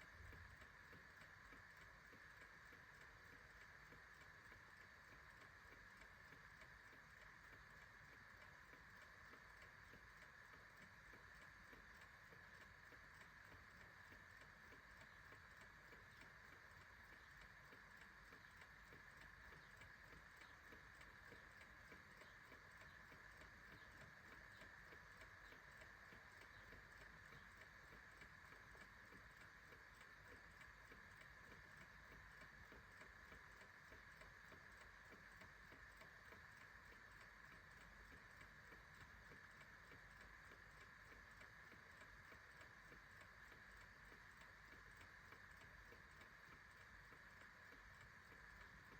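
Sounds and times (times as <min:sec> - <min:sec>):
clock ticking: 0:00.0 - 0:48.9
low hiss: 0:00.0 - 0:48.9.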